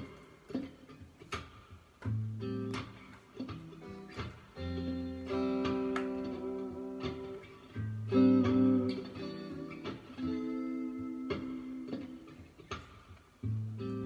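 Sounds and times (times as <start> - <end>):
electric guitar playing chords: 0.0 - 14.0.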